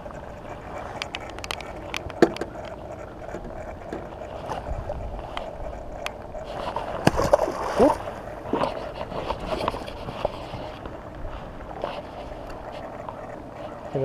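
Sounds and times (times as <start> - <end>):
clicks and taps handling fish: 0.1 - 14.0.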